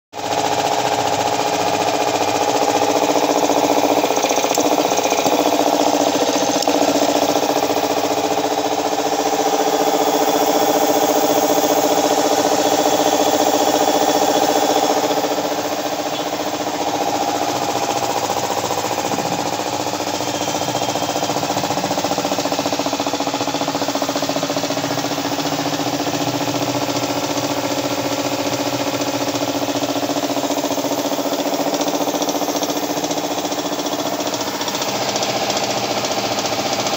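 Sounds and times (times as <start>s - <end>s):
air compressor running: 0.1s - 36.9s.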